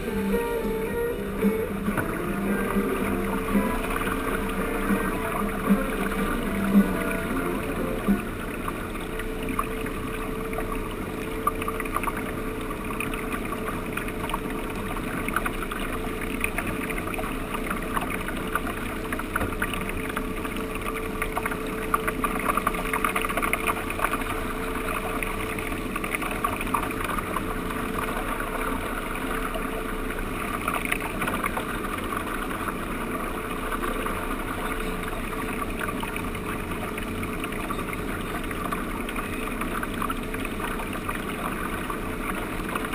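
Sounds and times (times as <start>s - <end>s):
boat motor drone: 0.0s - 42.9s
water rushing along boat hull: 0.0s - 42.9s.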